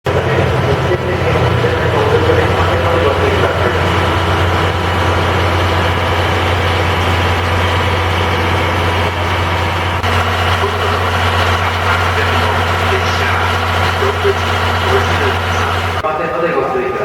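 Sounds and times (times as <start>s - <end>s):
train machinery hum: 0.0s - 17.0s
people talking: 0.1s - 7.7s, 10.0s - 17.0s.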